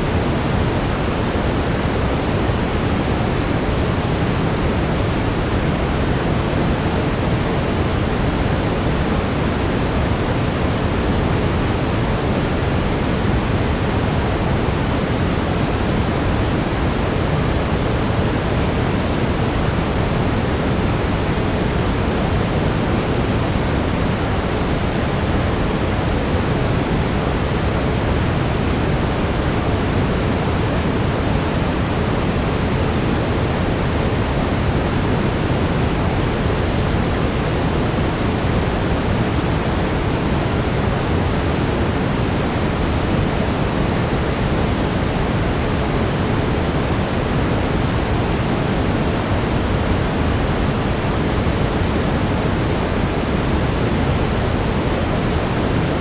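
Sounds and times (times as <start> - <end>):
brown noise hiss: 0.0 - 56.0
faint steady tone: 0.0 - 56.0.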